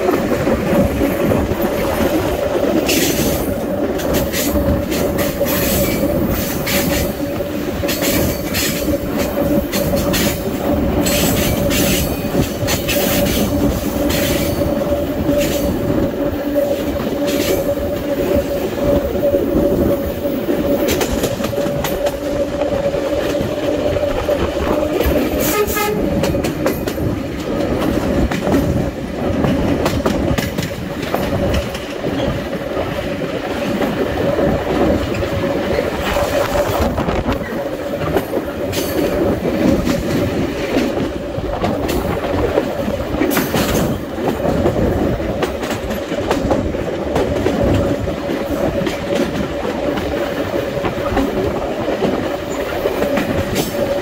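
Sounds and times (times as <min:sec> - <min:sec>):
electric train hum: 0:00.0 - 0:54.0
train wheels rumbling: 0:00.0 - 0:54.0.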